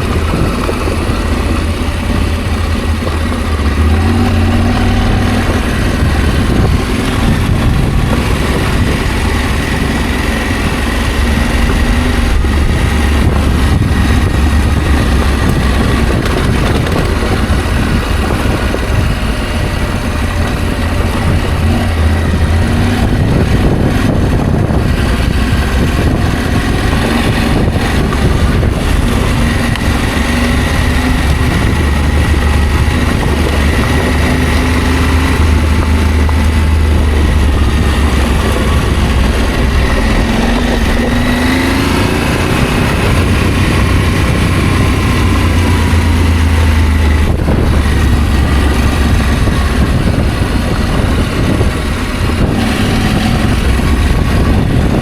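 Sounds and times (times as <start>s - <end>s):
motorcycle engine running: 0.0s - 55.0s
rushing noise: 0.0s - 55.0s.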